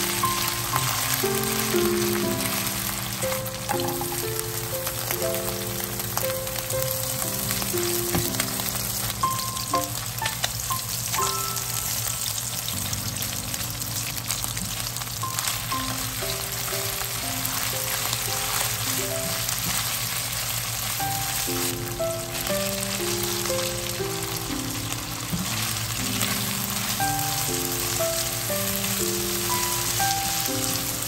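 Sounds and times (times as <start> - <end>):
background melody: 0.0 - 20.0, 20.9 - 31.0
food sizzling in oil: 0.0 - 31.0.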